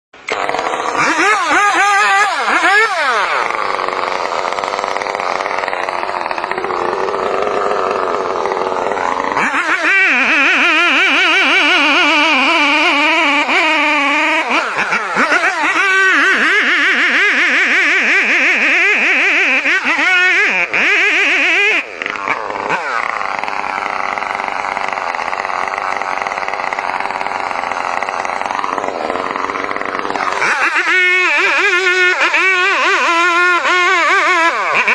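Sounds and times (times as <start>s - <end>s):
chainsaw revving and cutting: 0.2s - 34.9s.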